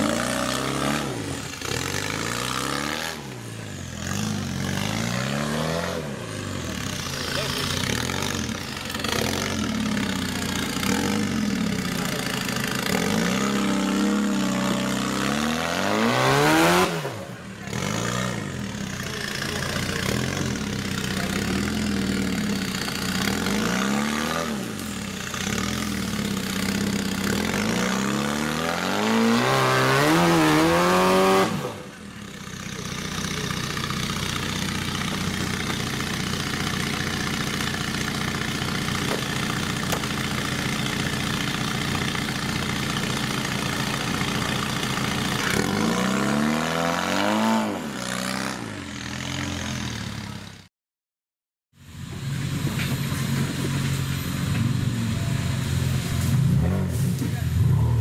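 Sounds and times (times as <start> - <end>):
engine revving: 0.0 - 50.7, 51.8 - 58.0.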